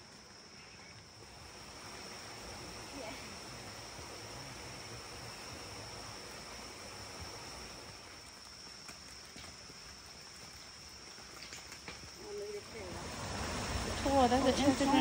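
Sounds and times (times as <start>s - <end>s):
high-pitched insect drone: 0.0s - 13.0s
even hiss: 0.0s - 15.0s.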